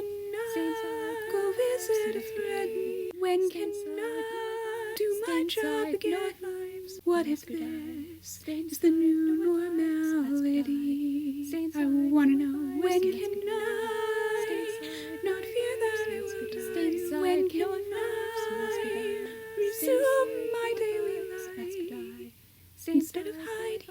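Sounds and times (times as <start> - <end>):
voices singing in harmony: 0.0 - 23.9.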